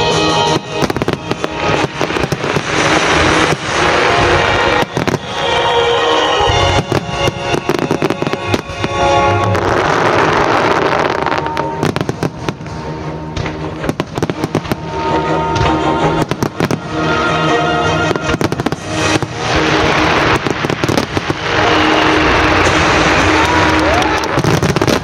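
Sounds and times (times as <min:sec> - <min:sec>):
fireworks bursting: 0:00.0 - 0:25.0
fireworks crackling: 0:00.0 - 0:25.0
music playing: 0:00.0 - 0:25.0.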